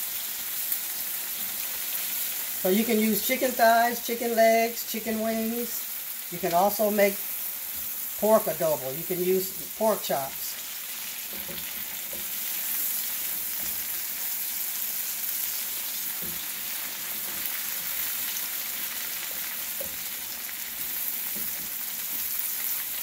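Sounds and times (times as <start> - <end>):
chicken sizzling in a skillet: 0.0 - 23.0.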